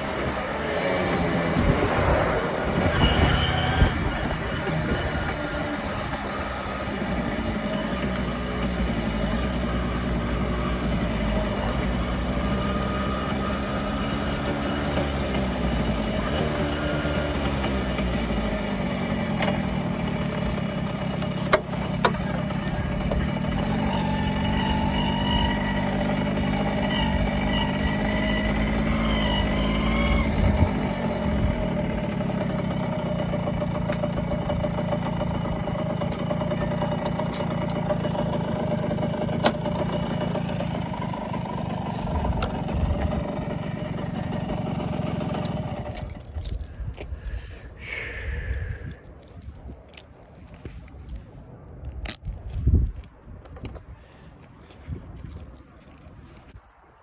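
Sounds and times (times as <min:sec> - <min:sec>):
small motorcycle engine running: 0:00.0 - 0:50.0.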